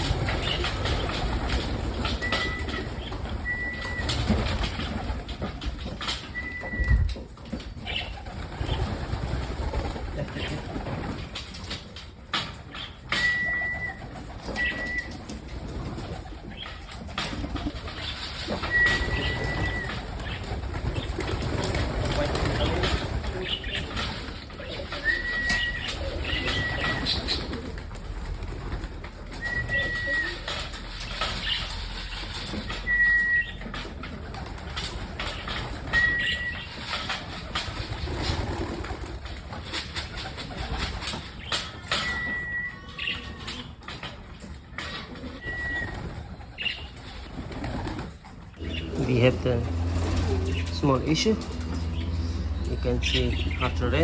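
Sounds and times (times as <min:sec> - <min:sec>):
pigeons cooing: 0:00.0 - 0:54.0
wings flapping: 0:00.0 - 0:54.0.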